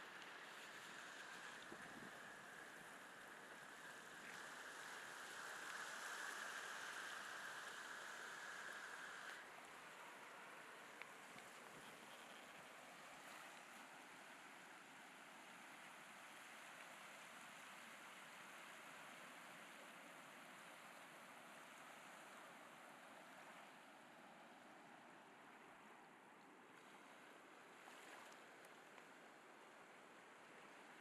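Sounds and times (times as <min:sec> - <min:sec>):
ocean surf on sand: 0:00.0 - 0:29.5.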